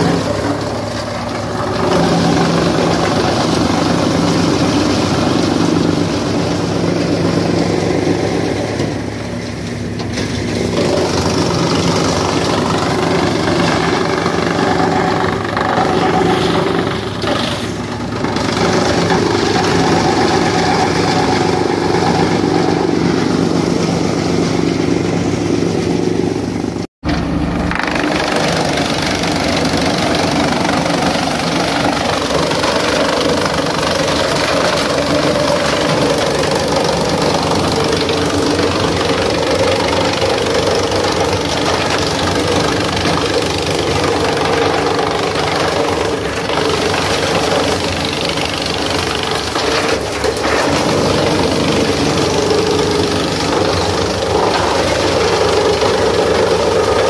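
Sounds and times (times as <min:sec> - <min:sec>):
chaff cutter chopping branches: 0:00.0 - 0:25.4, 0:27.0 - 0:57.0
tractor engine running: 0:00.0 - 0:57.0.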